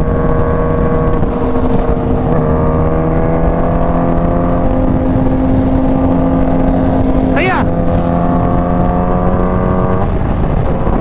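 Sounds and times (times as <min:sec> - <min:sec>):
motorcycle engine cruising: 0:00.0 - 0:11.0
road and wind noise: 0:00.0 - 0:11.0.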